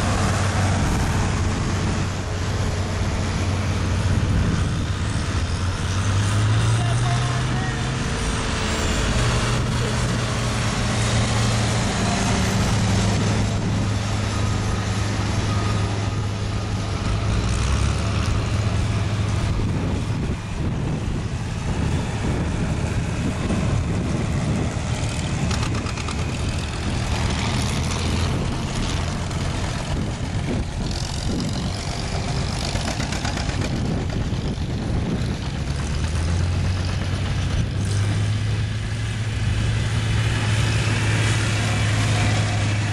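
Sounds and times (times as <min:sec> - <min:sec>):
tractor engines passing: 0:00.0 - 0:42.9.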